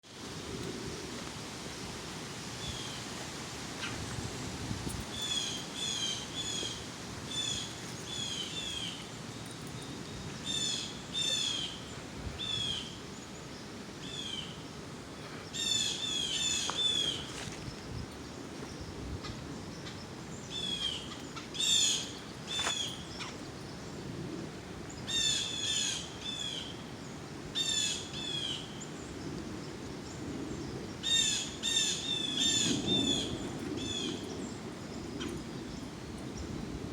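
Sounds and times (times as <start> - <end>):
steady background hiss: 0.0 - 36.9
songbirds chirping: 2.4 - 36.9.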